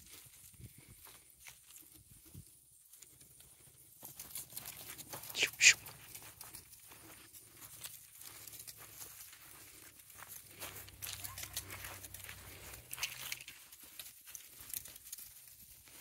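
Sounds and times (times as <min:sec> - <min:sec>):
footsteps through dry leaves: 0:00.0 - 0:16.0.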